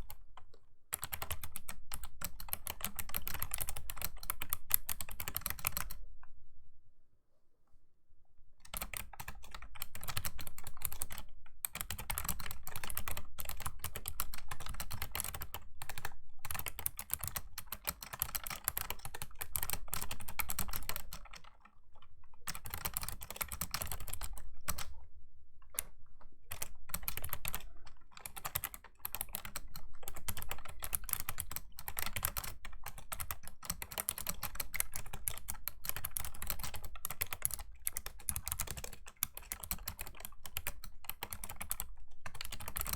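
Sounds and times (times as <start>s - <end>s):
fast keyboard typing clicks: 0.9s - 6.0s, 8.7s - 25.0s, 26.5s - 42.9s.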